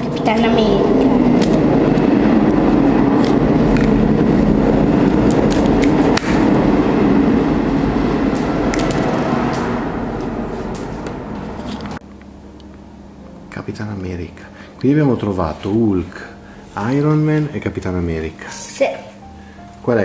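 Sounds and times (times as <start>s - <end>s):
loud rumbling with low hum: 0.0s - 18.4s.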